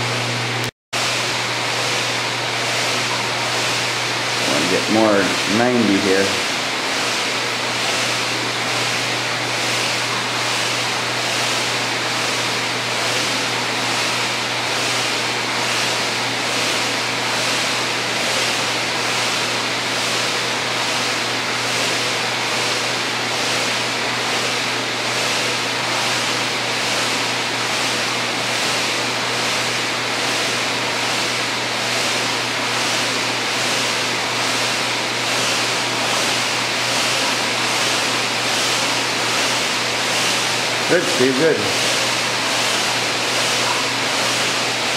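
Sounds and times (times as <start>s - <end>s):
flywheel whirring: 1.0s - 44.9s.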